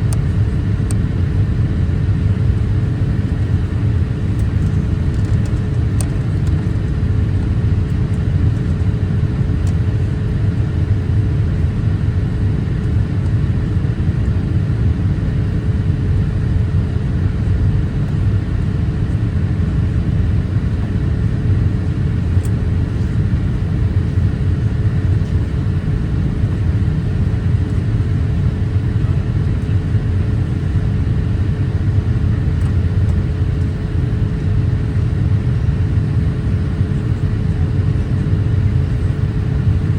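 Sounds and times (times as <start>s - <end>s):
airliner cabin rumble: 0.0s - 39.9s
faint constant hum: 0.0s - 39.9s.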